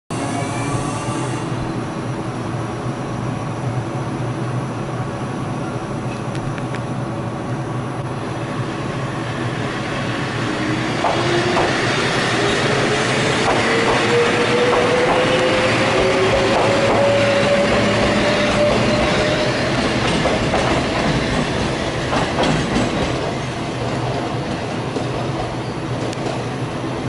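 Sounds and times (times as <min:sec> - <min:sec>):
electric train running past: 0:00.1 - 0:27.0.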